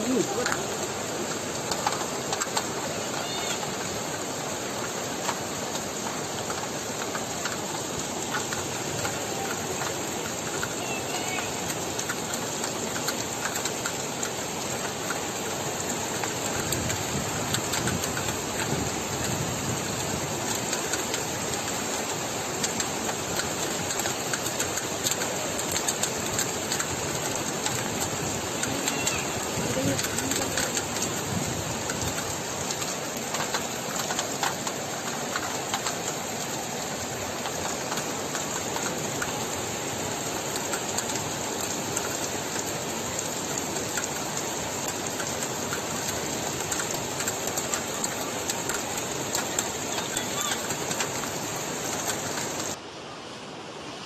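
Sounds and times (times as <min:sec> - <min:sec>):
heavy rain falling: 0:00.0 - 0:52.8.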